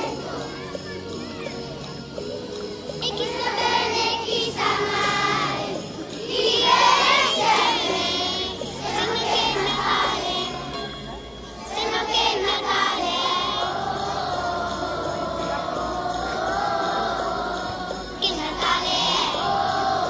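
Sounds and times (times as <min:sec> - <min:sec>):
children's choir singing carol: 0:00.0 - 0:20.0
sleigh bells shaking in rhythm: 0:00.0 - 0:20.0.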